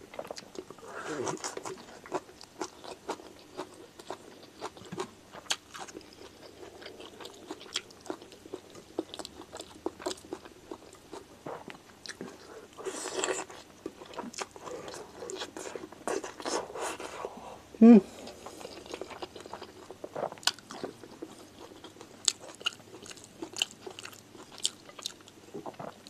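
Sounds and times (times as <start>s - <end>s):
close-up chewing: 0.0s - 17.2s, 18.1s - 26.0s.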